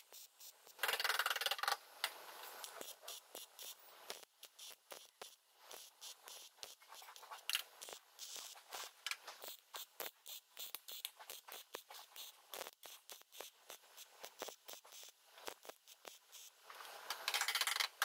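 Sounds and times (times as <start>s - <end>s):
welding arc crackling and popping: 0.0s - 18.0s.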